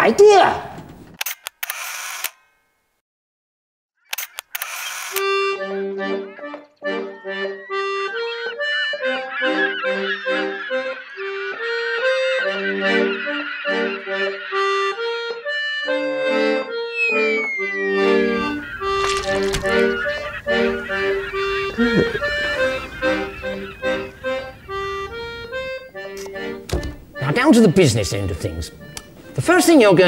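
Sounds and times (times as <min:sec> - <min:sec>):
reedy instrumental melody: 0:05.2 - 0:30.0.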